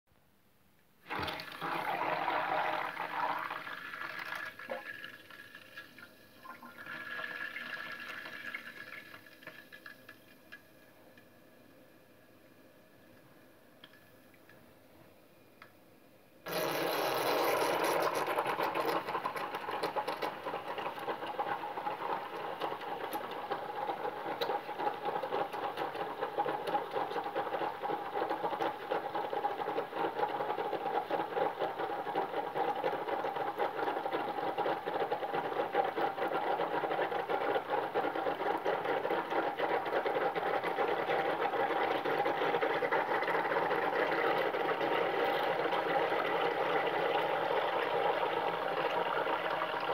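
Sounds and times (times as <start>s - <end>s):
tap water pouring into sink: 1.1s - 10.6s, 16.5s - 49.9s.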